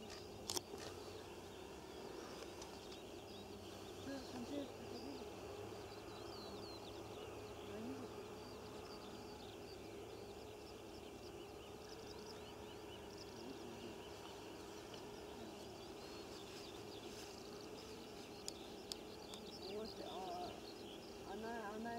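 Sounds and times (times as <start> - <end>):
small birds chirping: 0.0 - 21.9
steady background hiss: 0.0 - 21.9.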